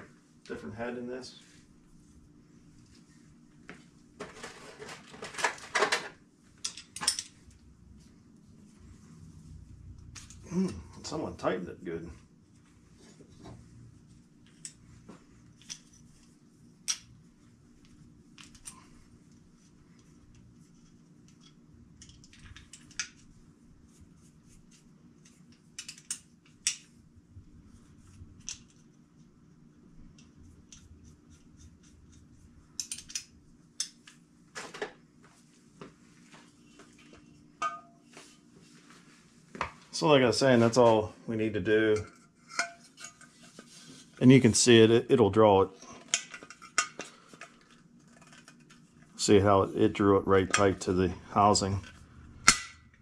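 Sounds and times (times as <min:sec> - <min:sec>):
faint shop hum: 0:00.0 - 0:53.0.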